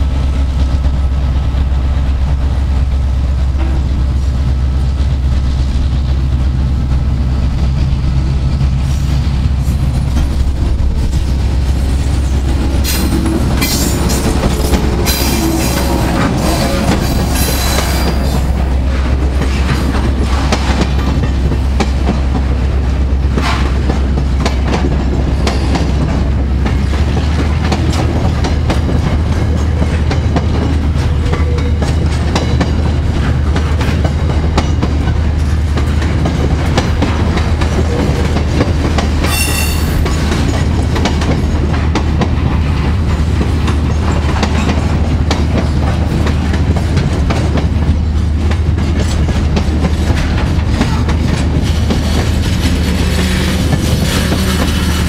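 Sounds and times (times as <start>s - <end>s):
diesel locomotive droning: 0.0s - 55.0s
wheels clacking over rail joints: 3.5s - 55.0s.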